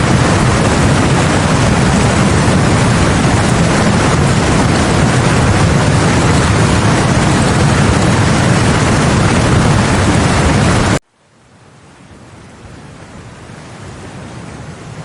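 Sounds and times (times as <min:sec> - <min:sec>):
flooded river rushing: 0:00.0 - 0:15.0.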